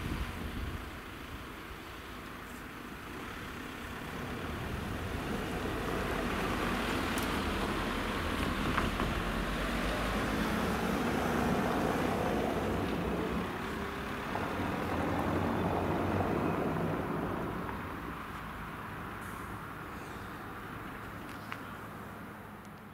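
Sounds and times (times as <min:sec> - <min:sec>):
passing vehicle rumble: 0:00.0 - 0:22.6.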